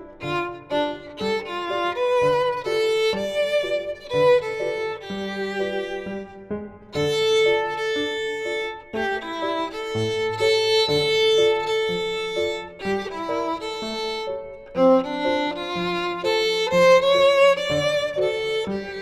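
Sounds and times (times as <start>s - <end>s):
violin melody: 0.0s - 19.0s.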